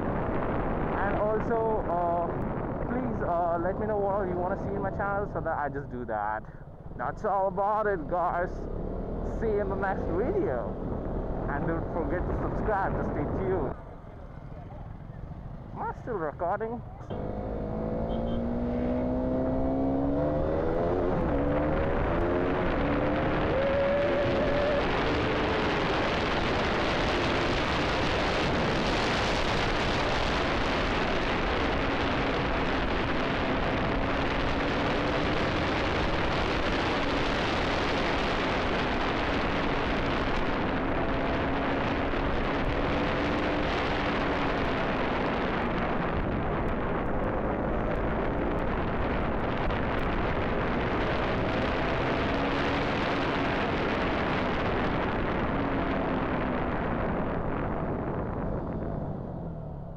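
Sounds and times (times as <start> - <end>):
motorcycle engine revving: 8.0 - 11.9, 13.8 - 16.0, 16.8 - 59.9.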